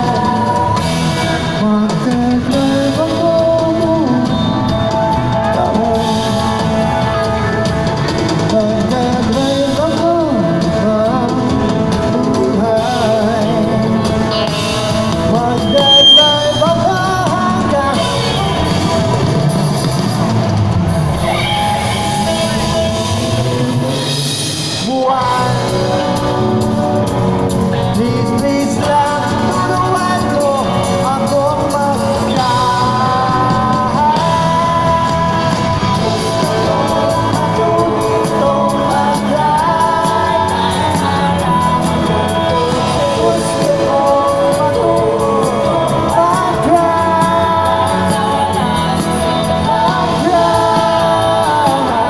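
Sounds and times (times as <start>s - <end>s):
person singing: 0.0s - 20.0s, 24.7s - 52.0s
drums: 0.0s - 52.0s
electric guitars: 0.0s - 52.0s.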